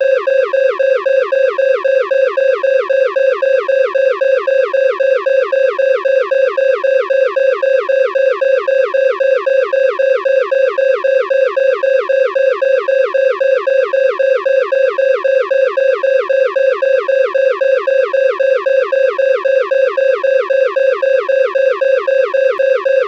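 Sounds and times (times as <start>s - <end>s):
electronic alarm pulsing: 0.0s - 23.0s.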